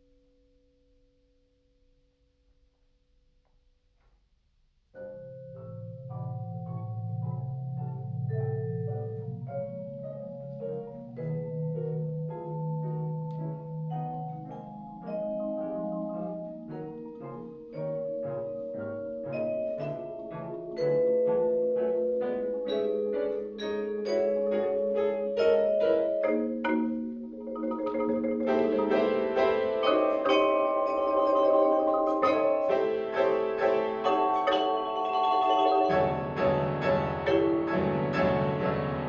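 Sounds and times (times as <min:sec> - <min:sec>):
marimba: 0:05.0 - 0:39.0
pianos playing: 0:05.0 - 0:39.0
vibraphone: 0:05.0 - 0:39.0.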